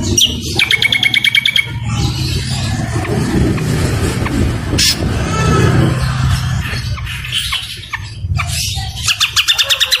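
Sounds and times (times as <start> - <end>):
harsh squawking bird calls: 0.0 - 10.0.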